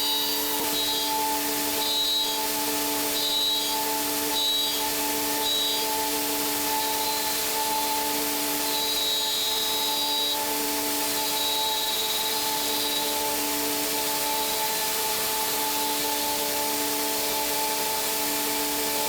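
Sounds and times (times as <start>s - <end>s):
milling machine spindle whine: 0.0s - 19.0s.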